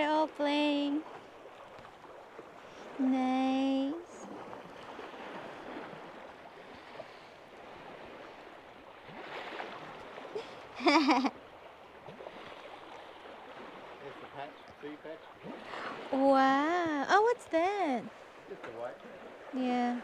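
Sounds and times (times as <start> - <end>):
sea water rushing along a hull: 0.0 - 20.0.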